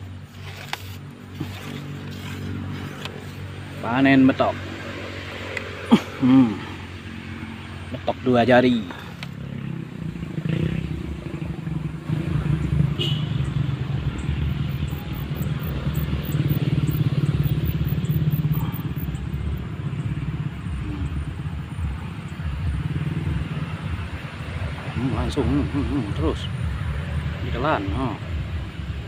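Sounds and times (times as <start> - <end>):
motorcycle engine rumbling: 0.0 - 29.0.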